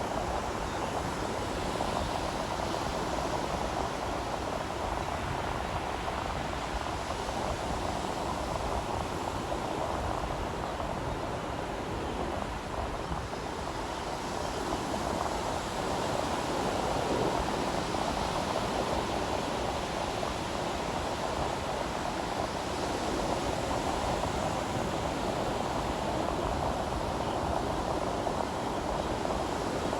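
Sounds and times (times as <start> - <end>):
waves breaking on beach: 0.0 - 29.9.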